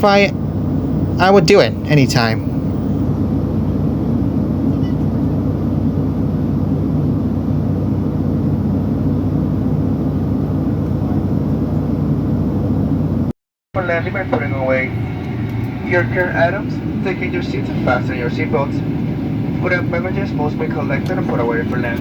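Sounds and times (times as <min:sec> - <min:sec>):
airplane cabin engine drone: 0:00.0 - 0:22.0.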